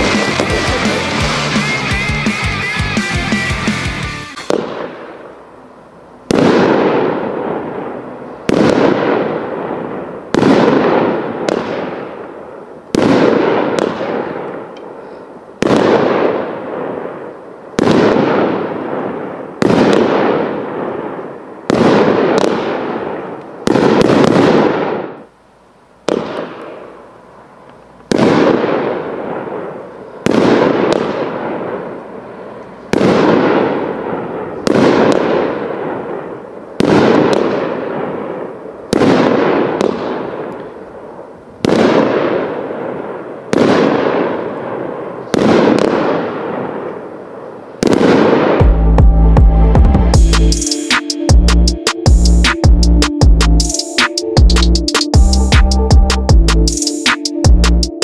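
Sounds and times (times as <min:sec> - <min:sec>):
firework bangs: 0:00.0 - 0:05.6, 0:06.2 - 0:25.3, 0:26.0 - 0:27.1, 0:28.1 - 0:49.2.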